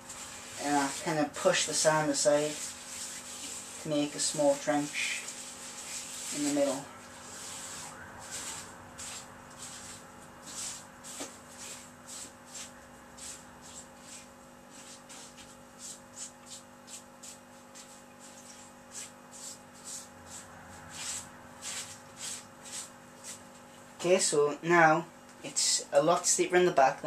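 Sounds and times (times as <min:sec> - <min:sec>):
hand scraping sand on glass: 0:00.0 - 0:23.5.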